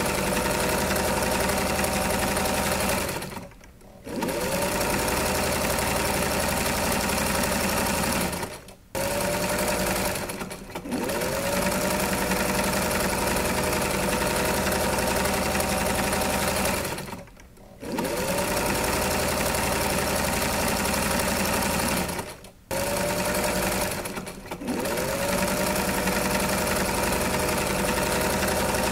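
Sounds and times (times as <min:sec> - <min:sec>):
electric sewing machine running: 0:00.0 - 0:28.9.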